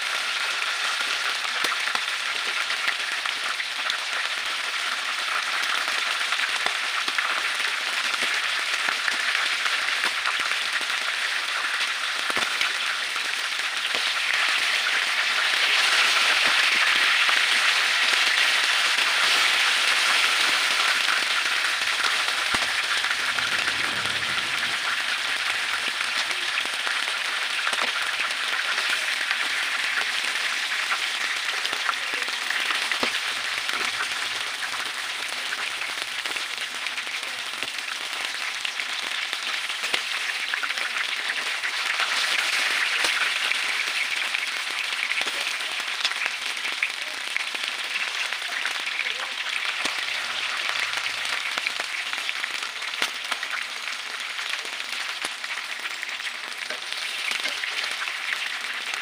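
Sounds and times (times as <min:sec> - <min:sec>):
squid frying in hot oil: 0:00.0 - 0:59.0.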